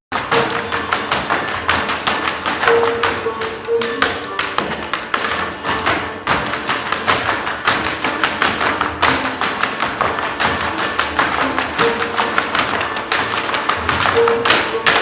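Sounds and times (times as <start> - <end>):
tap dance footwork on stage floor: 0.1 - 15.0.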